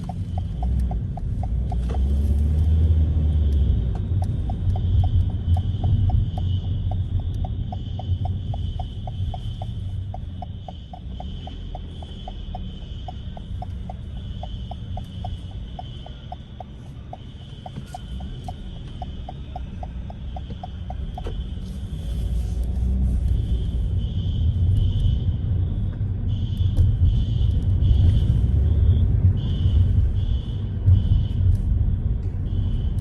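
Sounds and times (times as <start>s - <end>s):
car engine rumble: 0.0s - 33.0s
city traffic: 0.0s - 33.0s
turn signal clicking: 0.0s - 33.0s.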